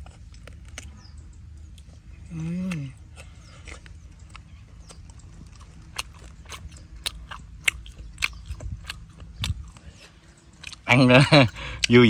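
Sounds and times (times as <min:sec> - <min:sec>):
boy chewing crunchy crab: 0:00.0 - 0:12.0.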